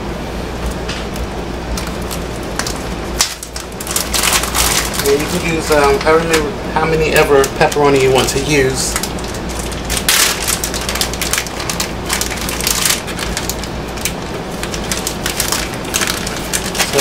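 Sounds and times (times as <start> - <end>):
food packaging crinkling: 0.6 - 6.4, 7.1 - 17.0.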